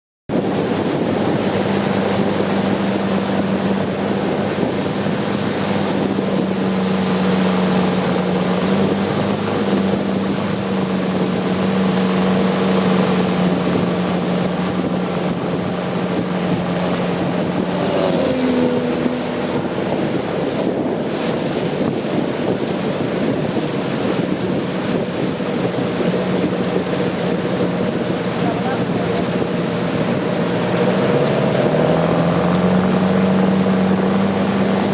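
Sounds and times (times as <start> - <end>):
boat engine running: 0.3 - 34.9
water rushing: 0.3 - 34.9
wind on microphone: 0.3 - 34.9.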